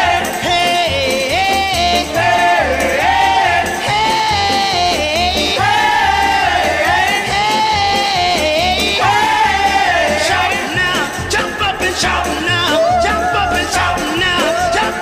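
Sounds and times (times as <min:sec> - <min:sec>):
song with bass beat: 0:00.0 - 0:15.0.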